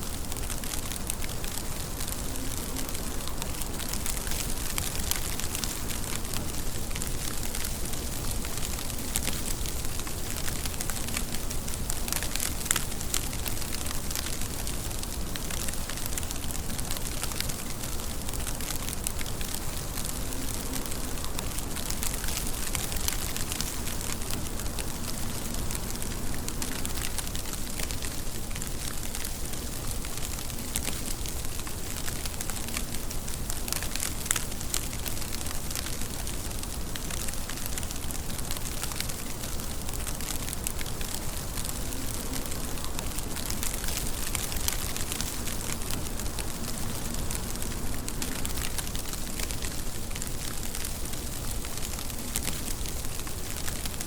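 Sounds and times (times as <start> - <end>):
crisp raindrop ticks: 0.0 - 54.0
steady rain hiss: 0.0 - 54.0.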